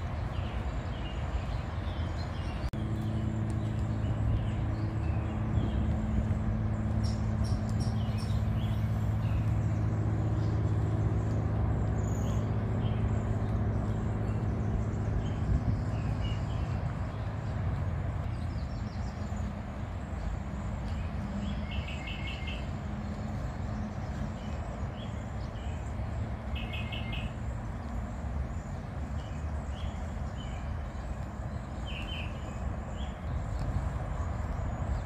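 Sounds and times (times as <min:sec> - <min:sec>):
birds chirping: 0:00.0 - 0:35.0
low outdoor rumble: 0:00.0 - 0:35.0.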